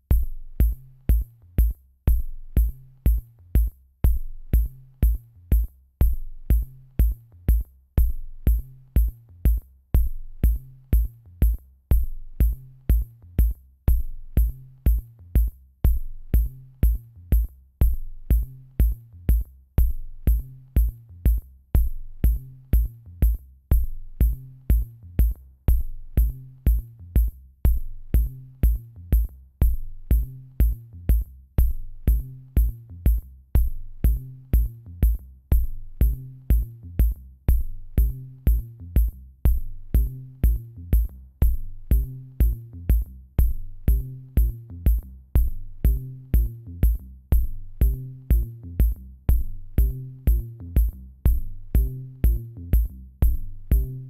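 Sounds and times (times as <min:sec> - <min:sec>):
drum-machine beat: 0:00.0 - 0:54.0
low bass line: 0:00.0 - 0:54.0.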